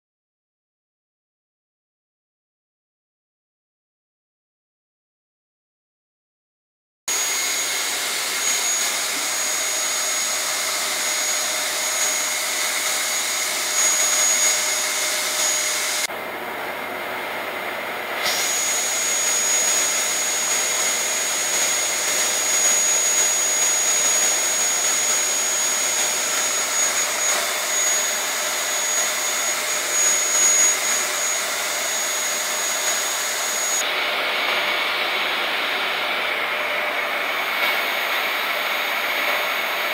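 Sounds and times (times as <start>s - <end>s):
vacuum cleaner running: 7.1s - 39.9s.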